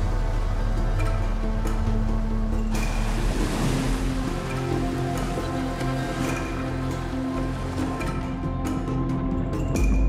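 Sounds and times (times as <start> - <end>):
ocean waves breaking: 0.0 - 8.9
background music with low tones: 0.0 - 10.0.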